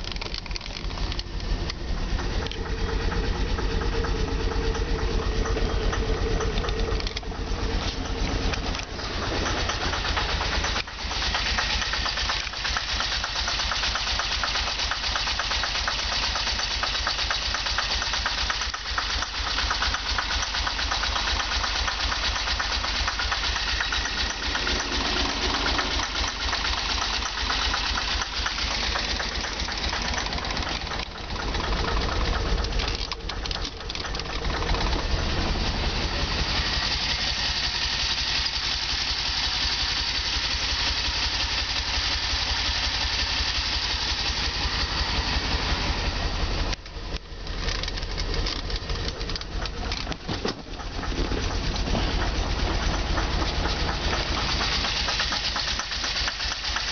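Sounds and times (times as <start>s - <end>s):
car engine idling roughly: 0.0s - 56.9s.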